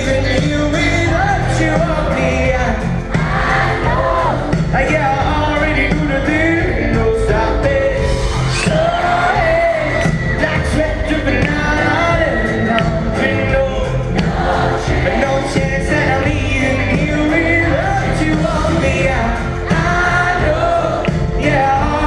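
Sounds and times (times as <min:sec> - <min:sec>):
person singing: 0:00.0 - 0:22.0
pop-rock band playing: 0:00.0 - 0:22.0.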